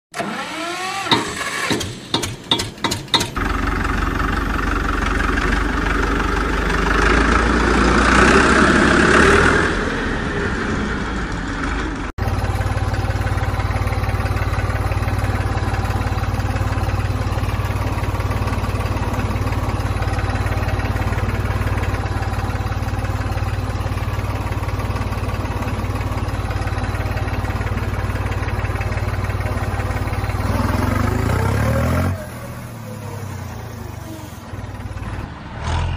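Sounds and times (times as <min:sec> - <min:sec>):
tractor engine running: 0:00.1 - 0:35.9.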